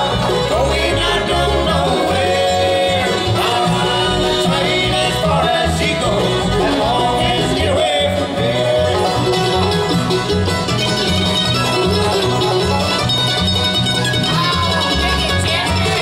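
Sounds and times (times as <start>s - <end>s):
bluegrass band playing: 0.0s - 16.0s
upright bass beat: 0.0s - 16.0s.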